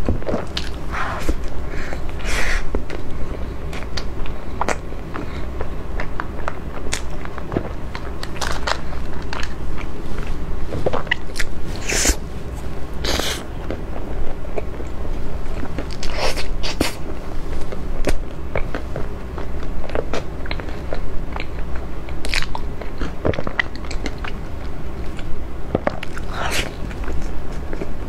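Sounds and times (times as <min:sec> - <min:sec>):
chewing and crunching cake: 0:00.0 - 0:28.0.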